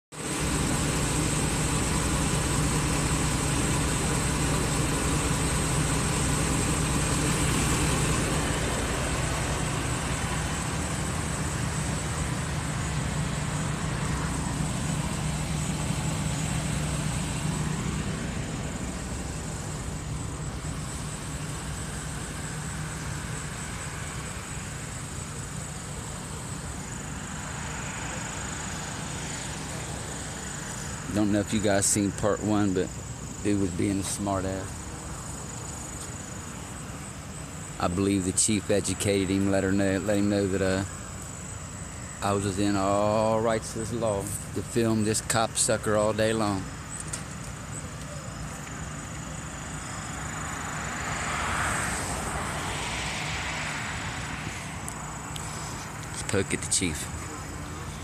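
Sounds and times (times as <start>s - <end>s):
car engine idling: 0.1s - 58.0s.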